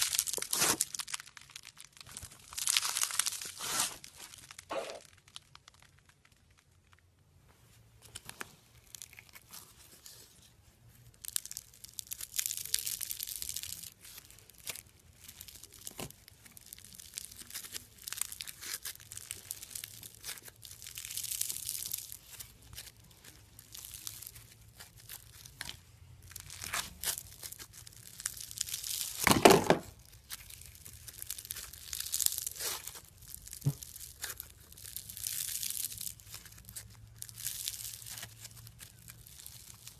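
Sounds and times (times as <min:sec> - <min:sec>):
crunchy slime crackling and popping: 0:00.0 - 0:07.4, 0:08.1 - 0:39.9.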